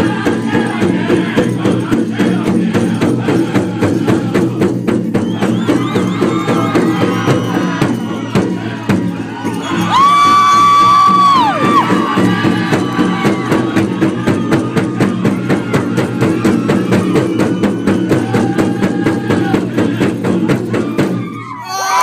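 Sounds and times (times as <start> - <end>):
big drum beating: 0.0 - 21.3.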